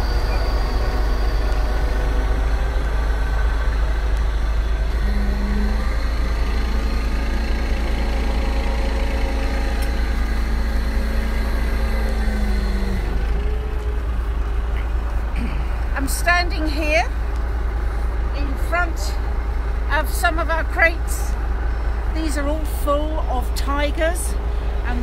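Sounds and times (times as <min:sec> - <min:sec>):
high steady hum: 0:00.0 - 0:25.0
truck engine idling: 0:00.0 - 0:25.0.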